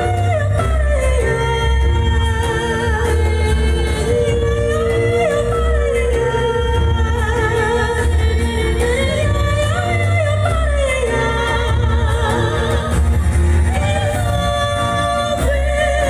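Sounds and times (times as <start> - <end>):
instrumental accompaniment: 0.0 - 16.0
pulsing bass: 0.0 - 16.0
two women singing duet: 0.0 - 16.0.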